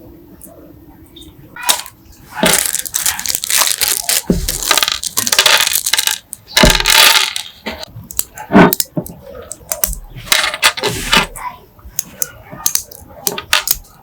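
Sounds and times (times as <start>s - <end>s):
metal parts clicking and scraping: 1.6s - 11.4s, 12.0s - 14.0s.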